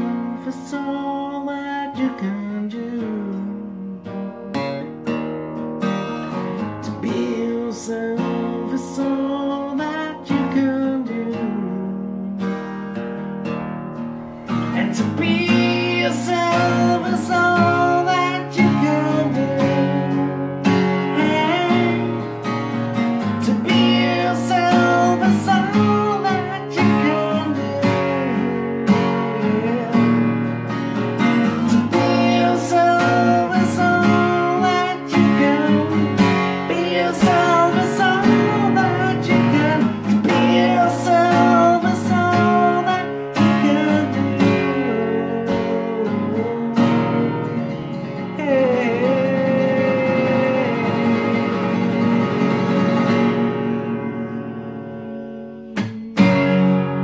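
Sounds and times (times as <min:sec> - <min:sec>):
man singing: 0:00.0 - 0:04.9, 0:06.6 - 0:12.6, 0:14.4 - 0:55.9
strummed acoustic guitar: 0:00.0 - 0:57.0.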